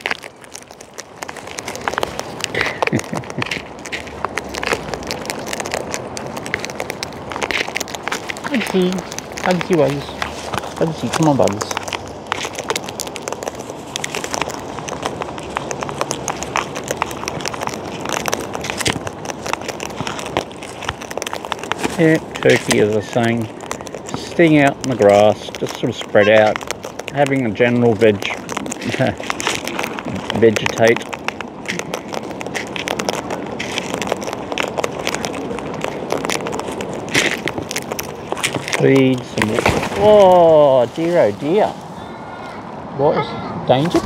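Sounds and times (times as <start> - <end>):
beaks cracking seed: 0.0 - 41.7
low rustling hiss: 0.0 - 44.0.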